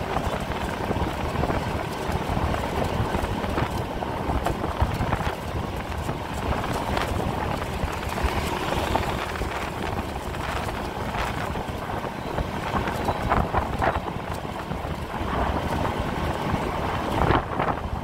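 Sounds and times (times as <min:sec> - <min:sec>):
motorbike engine: 0:00.0 - 0:18.0
road noise: 0:00.0 - 0:18.0
wind rushing over microphone: 0:00.0 - 0:18.0.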